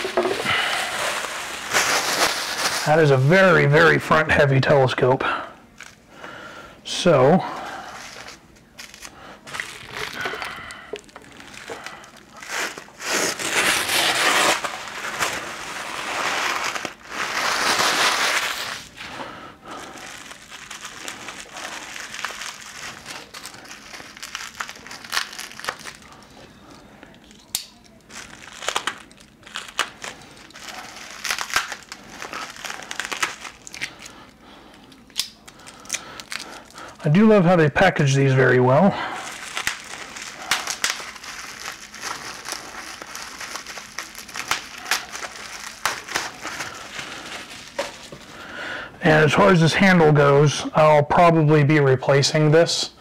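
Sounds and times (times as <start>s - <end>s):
plastic wrap crinkling: 0.0s - 4.2s, 7.5s - 48.6s.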